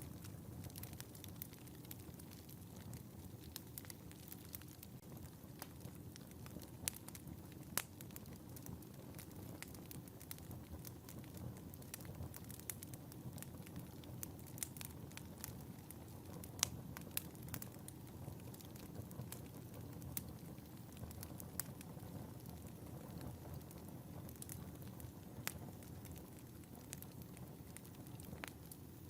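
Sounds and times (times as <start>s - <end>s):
fire crackling and popping: 0.0s - 29.0s
fire flames rumbling: 0.0s - 29.0s.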